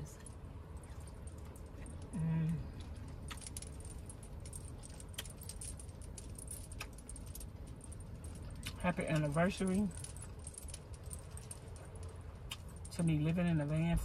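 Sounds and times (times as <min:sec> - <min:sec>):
steady low hum: 0:00.0 - 0:14.0
shells clicking and crackling: 0:00.2 - 0:13.4.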